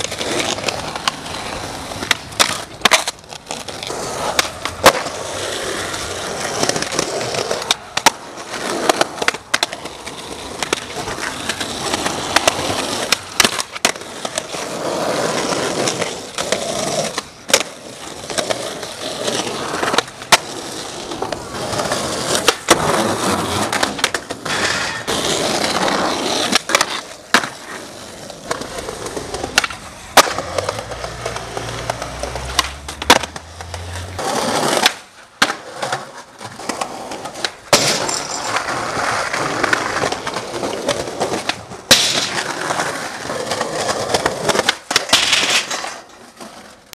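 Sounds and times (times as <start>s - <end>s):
skateboard clacking on ground: 0.0s - 46.9s
skateboard wheels rolling on pavement: 0.0s - 46.9s.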